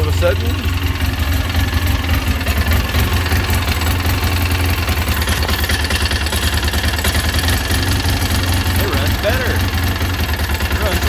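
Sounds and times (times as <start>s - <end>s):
engine running with misfire: 0.0s - 11.0s.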